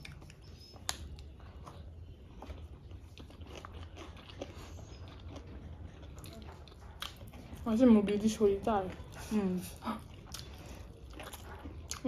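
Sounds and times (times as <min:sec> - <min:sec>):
low steady hum: 0:00.0 - 0:12.0
person chewing and eating: 0:00.0 - 0:12.0.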